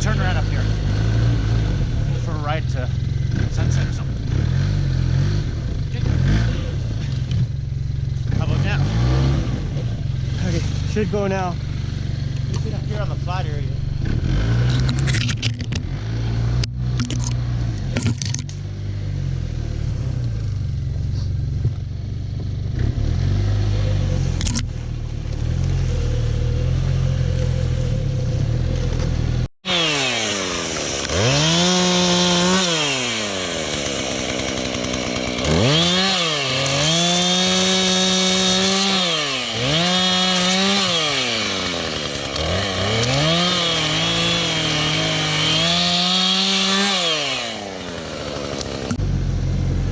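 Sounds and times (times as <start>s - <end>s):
snowmobile engine revving: 0.0s - 21.7s, 22.5s - 49.9s.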